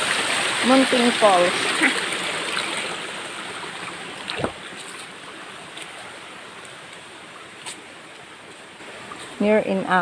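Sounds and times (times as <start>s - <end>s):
stream water rushing: 0.0s - 9.9s.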